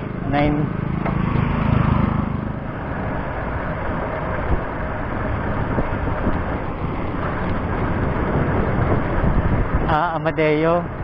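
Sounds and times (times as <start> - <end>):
bicycle tyres on road: 0.0 - 11.0
wind on microphone: 1.2 - 11.0.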